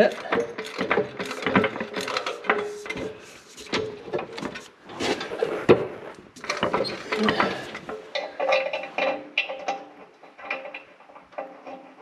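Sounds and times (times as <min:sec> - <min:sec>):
metal plate clattering and scraping: 0:00.0 - 0:12.0.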